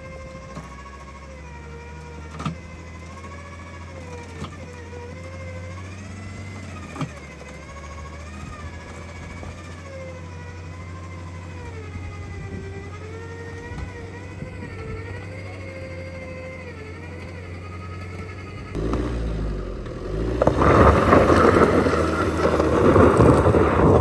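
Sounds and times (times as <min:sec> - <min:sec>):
suv engine: 0:00.0 - 0:24.0.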